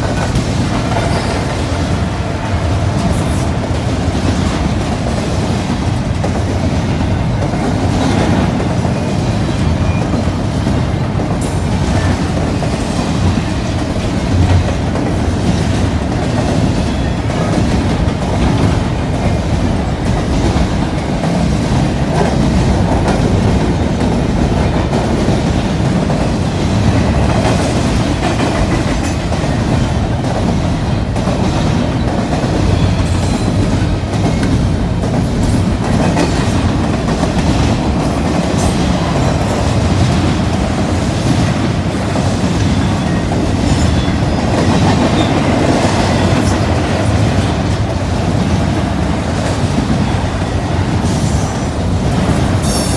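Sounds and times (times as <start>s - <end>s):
freight train wheels rumbling on rail: 0.0s - 52.9s
train trucks rattling and clicking: 0.0s - 52.9s.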